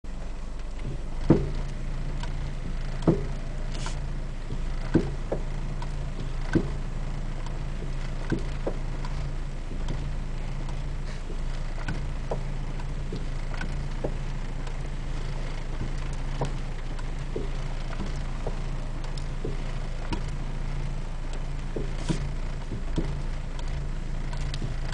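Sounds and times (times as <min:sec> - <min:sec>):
steady low hum: 0:00.1 - 0:24.9
suspension clunks: 0:00.1 - 0:24.9.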